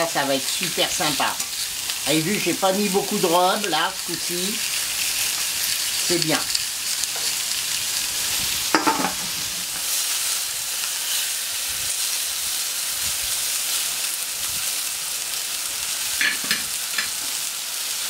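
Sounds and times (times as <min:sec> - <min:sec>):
food sizzling on a griddle: 0:00.0 - 0:18.0.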